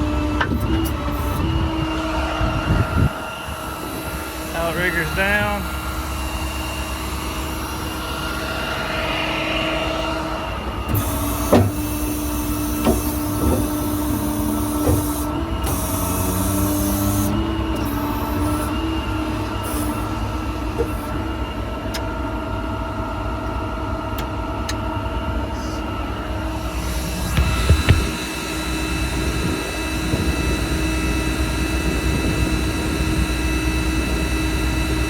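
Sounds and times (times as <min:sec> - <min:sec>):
whining equipment tone: 0:00.0 - 0:21.6, 0:25.6 - 0:35.0
diesel truck engine running: 0:00.0 - 0:35.0.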